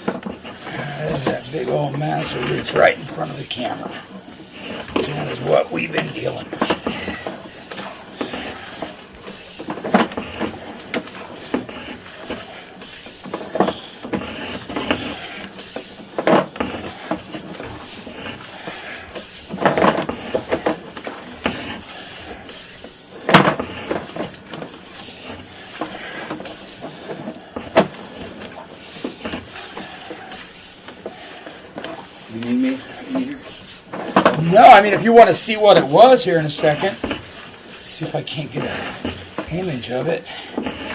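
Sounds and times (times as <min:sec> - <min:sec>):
faint background noise: 0:00.0 - 0:22.2, 0:23.3 - 0:40.9.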